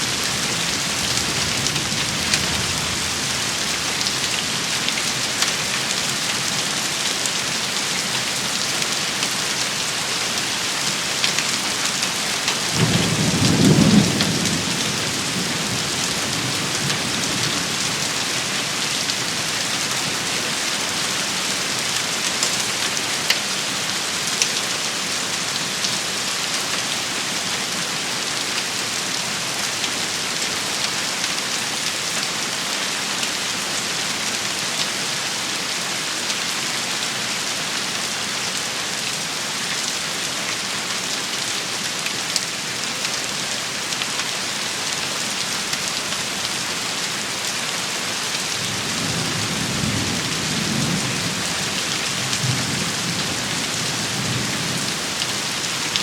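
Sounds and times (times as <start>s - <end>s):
rain and hail hissing: 0.0s - 56.0s.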